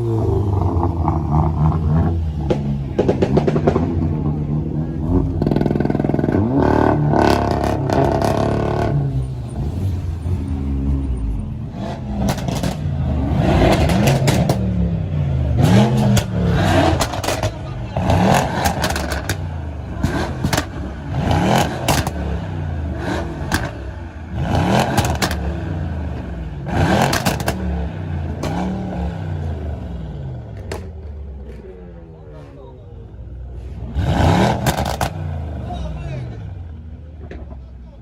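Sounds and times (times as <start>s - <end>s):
car engine revving: 0.0s - 37.6s.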